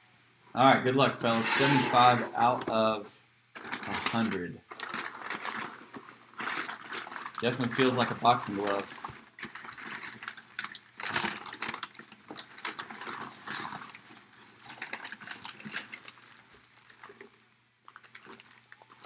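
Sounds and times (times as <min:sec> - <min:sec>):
packing paper rustling: 0:01.3 - 0:02.8, 0:03.6 - 0:19.0
plastic bag crinkling: 0:03.6 - 0:19.0.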